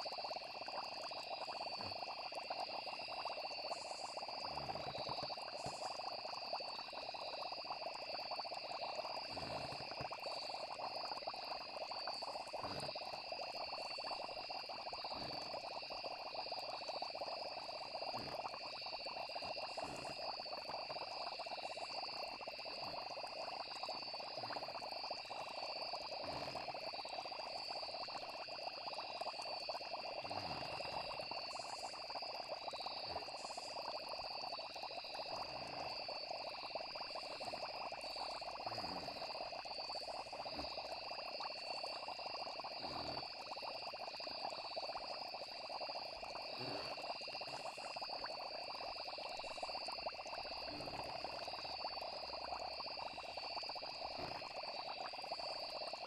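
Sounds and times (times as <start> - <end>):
frogs chorus: 0.0 - 56.0
insect trill: 0.0 - 56.0.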